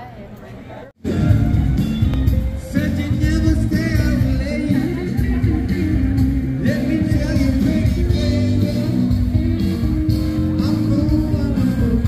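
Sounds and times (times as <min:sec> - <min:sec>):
rock and roll music: 0:01.0 - 0:12.0.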